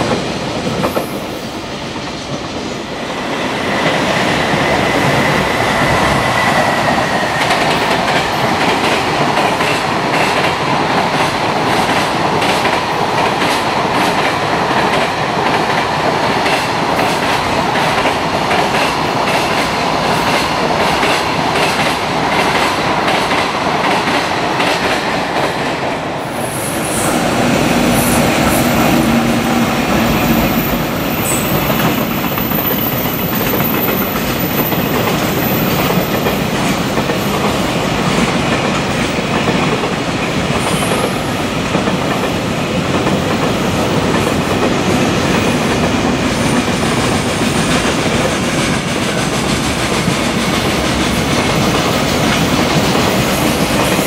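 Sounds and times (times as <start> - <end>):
train wheels rushing on rail: 0.0 - 54.0.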